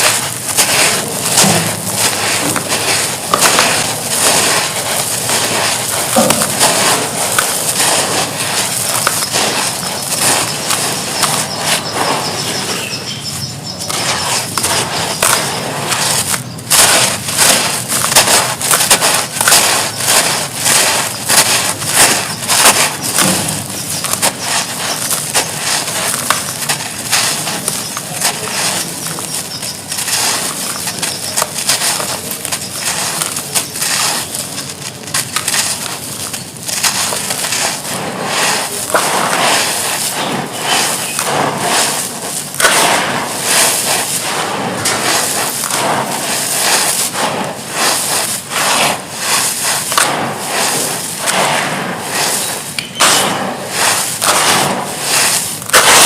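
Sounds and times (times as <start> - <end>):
charcoal crackling in water: 0.0 - 12.6, 13.4 - 56.0.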